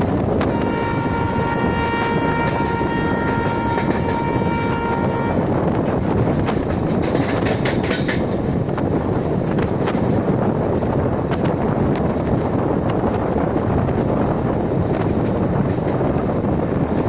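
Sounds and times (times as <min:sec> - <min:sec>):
train rumbling on rails: 0:00.0 - 0:17.0
wheels clicking over rail joints: 0:02.3 - 0:17.0.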